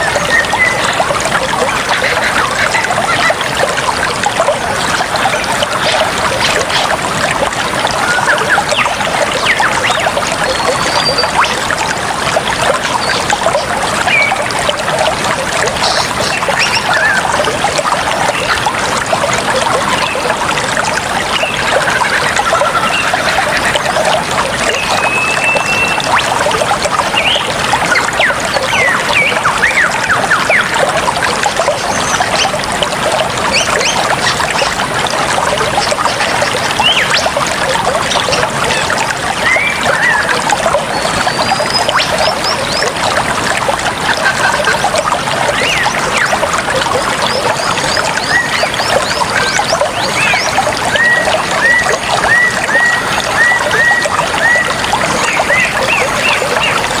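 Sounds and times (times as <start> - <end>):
water trickling and gurgling: 0.0 - 57.0.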